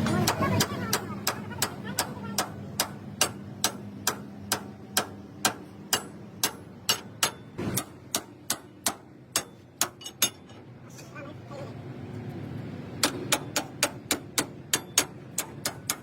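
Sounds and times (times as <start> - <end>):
hammer striking metal: 0.0 - 10.6, 13.0 - 16.0.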